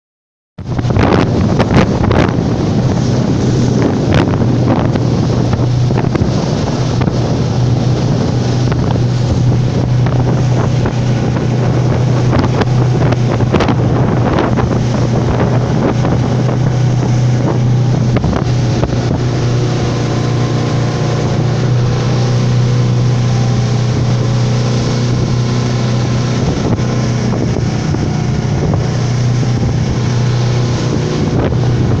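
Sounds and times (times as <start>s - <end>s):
motorboat engine drone: 0.6s - 32.0s
water rushing past hull: 0.6s - 32.0s
wind buffeting microphone: 0.6s - 32.0s.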